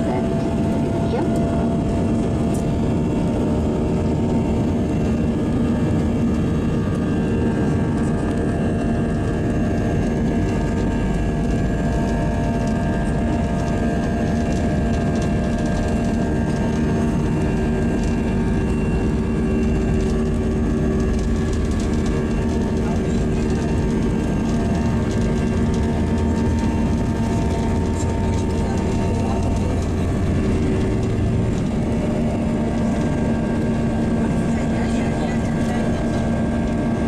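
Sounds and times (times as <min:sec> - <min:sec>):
jet engine whining tones: 0:00.0 - 0:37.0
jet engines rumbling: 0:00.0 - 0:37.0.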